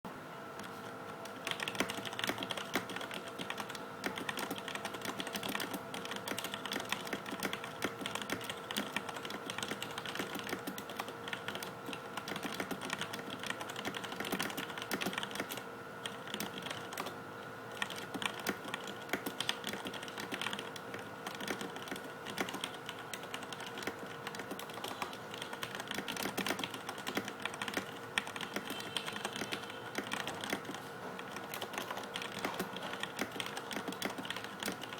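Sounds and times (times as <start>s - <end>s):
faint steady hum: 0.1s - 34.9s
mechanical keyboard typing: 1.3s - 34.9s.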